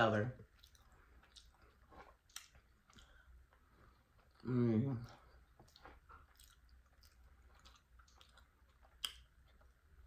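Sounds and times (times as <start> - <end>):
person chewing: 0.4 - 10.0.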